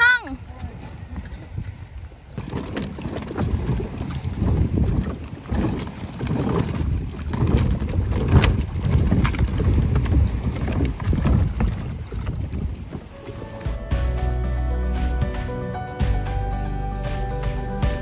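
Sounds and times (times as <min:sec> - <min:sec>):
wind buffeting microphone: 0:00.0 - 0:15.9
water sloshing against pontoon: 0:00.0 - 0:18.0
footsteps knocking on pontoon: 0:00.6 - 0:16.4.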